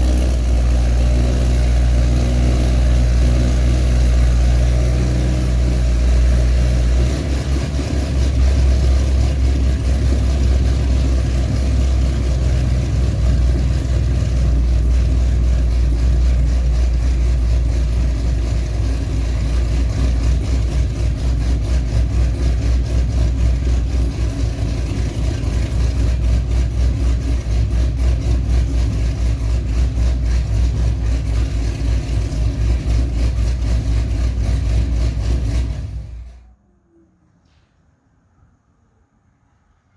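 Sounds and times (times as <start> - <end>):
car engine idling: 0.0 - 36.5.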